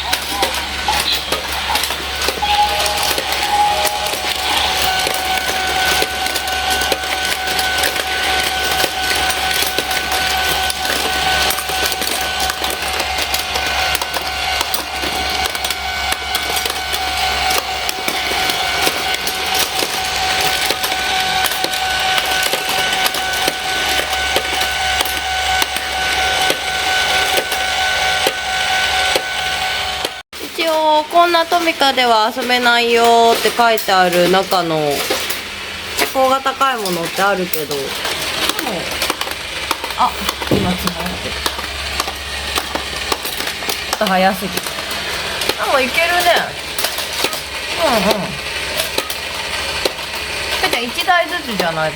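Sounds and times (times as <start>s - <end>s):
plastic wheels clattering on track: 0.0s - 51.9s
toy train motor whine: 0.0s - 51.9s.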